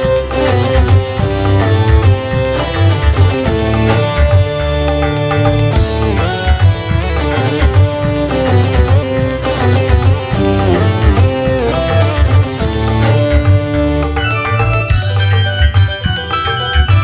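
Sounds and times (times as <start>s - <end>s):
instrumental band music: 0.0s - 17.0s.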